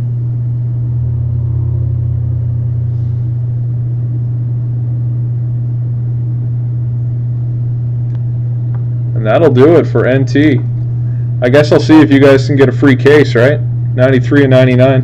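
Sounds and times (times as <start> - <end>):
low-pitched hum: 0.0 - 15.0.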